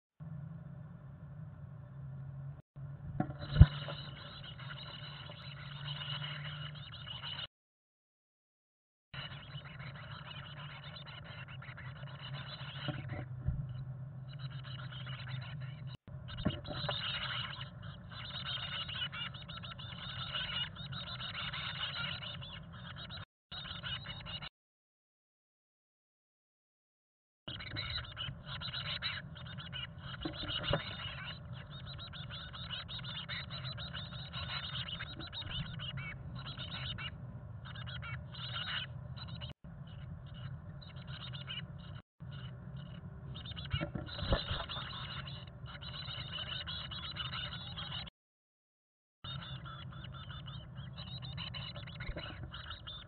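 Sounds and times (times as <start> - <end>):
low steady hum: 0.2 - 7.5, 9.2 - 24.4, 27.5 - 48.0
nestlings chirping: 3.3 - 7.5, 9.2 - 24.5, 27.5 - 48.1, 49.3 - 53.0.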